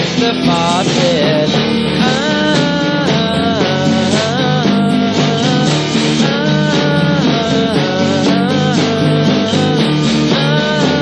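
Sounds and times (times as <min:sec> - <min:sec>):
lo-fi psychedelic indie pop song: 0:00.0 - 0:11.0
sliding lead melody: 0:00.0 - 0:11.0.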